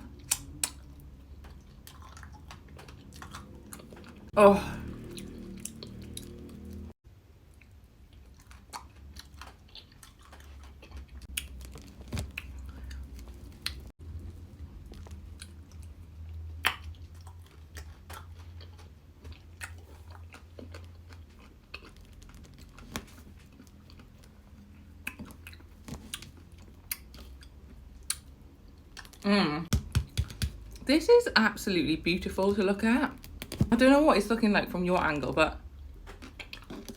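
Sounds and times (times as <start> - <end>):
person chewing ice cream: 0.0 - 29.2, 35.7 - 36.9.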